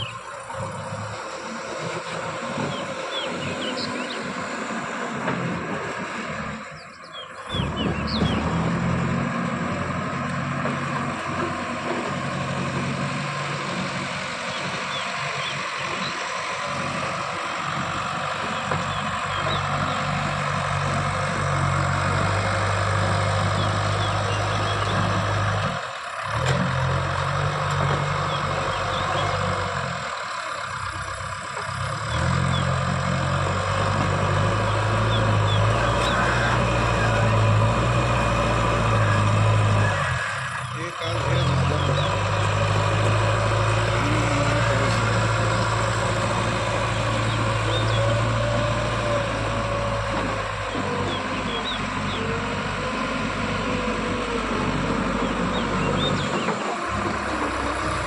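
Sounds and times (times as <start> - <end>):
diesel engine working: 0.0 - 58.0.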